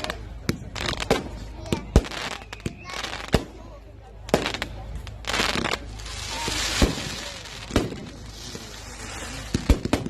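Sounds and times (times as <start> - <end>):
fireworks bangs: 0.0 - 3.7, 4.3 - 10.0
fireworks crackling hiss: 0.0 - 10.0.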